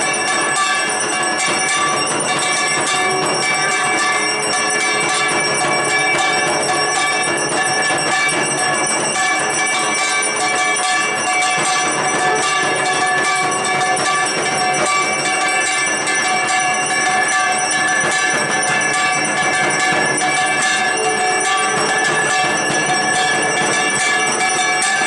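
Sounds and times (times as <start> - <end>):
hand bells ringing: 0.0 - 25.0.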